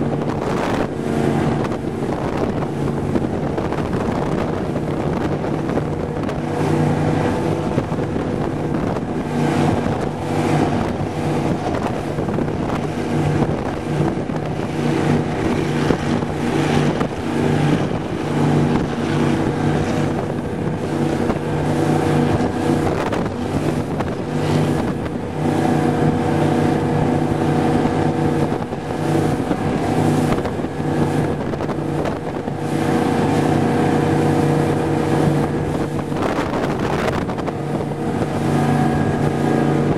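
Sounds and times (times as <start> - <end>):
boat engine drone: 0.0 - 39.9
wind buffeting microphone: 0.0 - 39.9.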